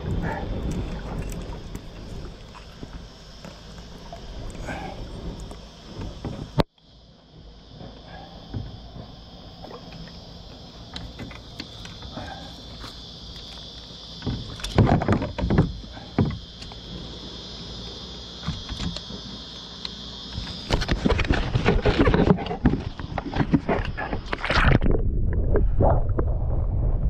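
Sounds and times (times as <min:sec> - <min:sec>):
high-pitched insect drone: 0:00.0 - 0:24.8.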